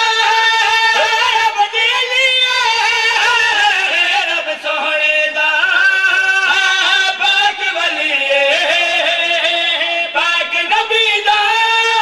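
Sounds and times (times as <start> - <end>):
men singing into a microphone: 0.0 - 12.0.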